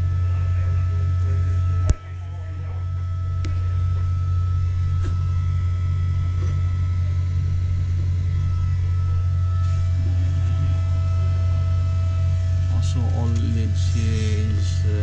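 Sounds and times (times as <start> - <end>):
faint steady whines: 0.0 - 15.0
low machinery hum: 0.0 - 15.0.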